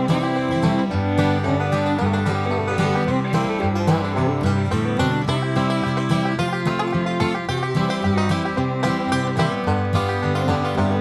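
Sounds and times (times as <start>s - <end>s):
plucked-string tune with beat: 0.0s - 11.0s.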